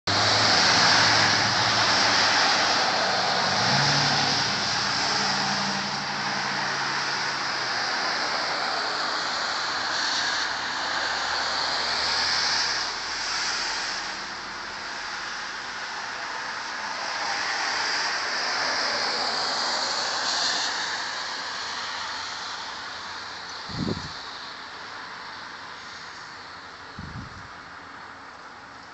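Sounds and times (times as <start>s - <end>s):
tyre hiss on wet road: 0.1s - 28.9s.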